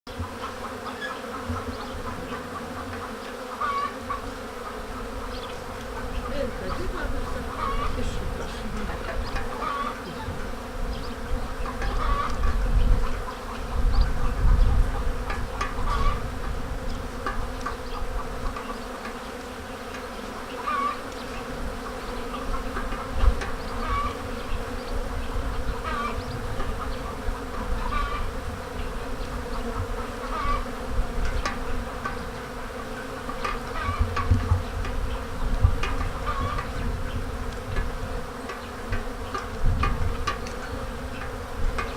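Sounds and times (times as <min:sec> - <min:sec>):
honeybees buzzing: 0:00.1 - 0:41.9.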